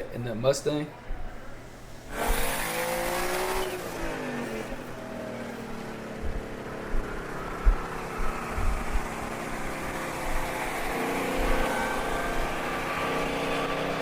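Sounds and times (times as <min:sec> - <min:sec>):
cars accelerating hard: 0:02.1 - 0:14.0.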